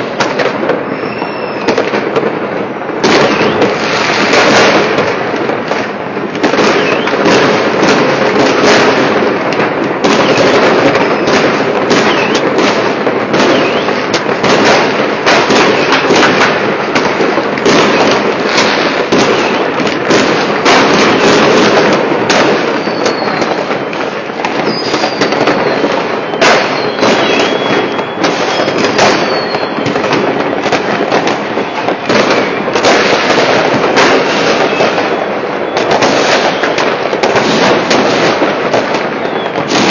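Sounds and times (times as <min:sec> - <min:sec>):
falling firework whistles: 0:00.0 - 0:02.2, 0:02.9 - 0:05.0, 0:06.3 - 0:39.9
fireworks and firecrackers crackling: 0:00.0 - 0:39.9.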